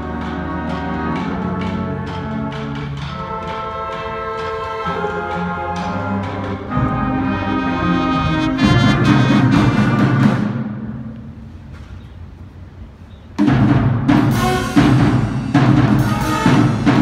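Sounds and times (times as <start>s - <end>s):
concert band playing: 0.0s - 11.9s, 13.3s - 17.0s.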